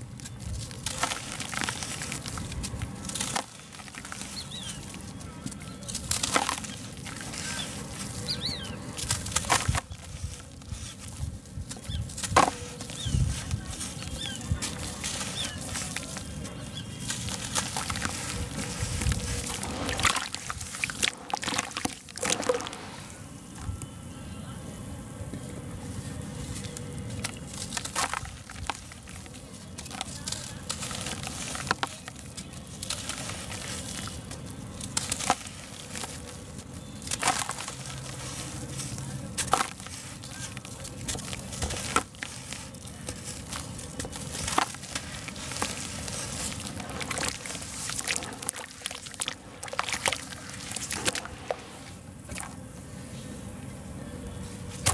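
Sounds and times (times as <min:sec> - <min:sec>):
hands squelching wet cement: 0:00.0 - 0:23.8, 0:25.7 - 0:52.6, 0:54.6 - 0:54.9
crunches and splashes: 0:00.2 - 0:23.1, 0:26.5 - 0:52.6.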